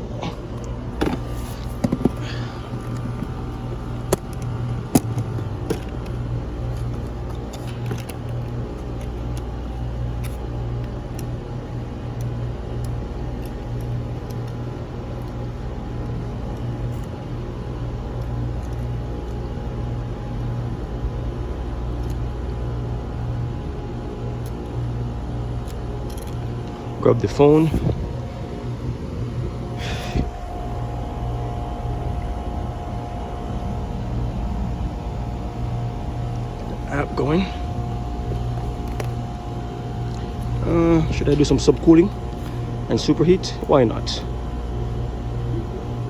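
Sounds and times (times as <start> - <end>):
machinery humming: 0.0 - 46.0.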